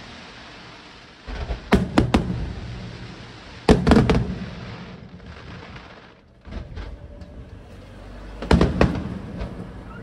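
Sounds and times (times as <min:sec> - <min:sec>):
firework pops and crackles: 0:00.0 - 0:07.4, 0:08.4 - 0:09.7
firework shell bursts rumbling: 0:00.0 - 0:07.5, 0:08.4 - 0:09.9.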